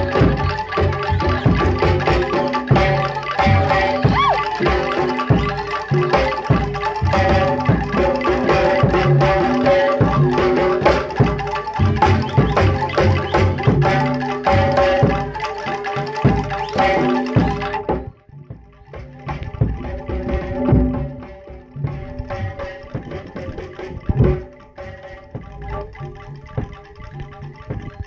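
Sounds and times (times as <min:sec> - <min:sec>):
hand drums beating: 0:00.0 - 0:28.0
ringing metal gong-chimes: 0:00.0 - 0:28.0.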